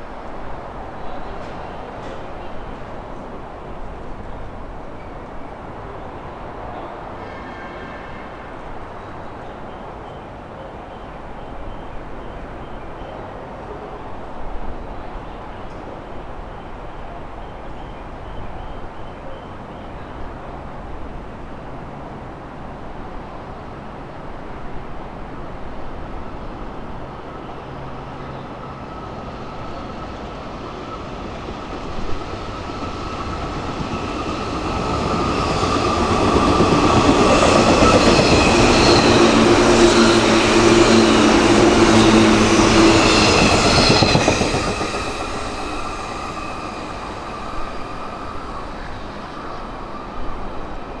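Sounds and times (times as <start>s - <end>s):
train rumble and wheel clatter: 0.0s - 51.0s.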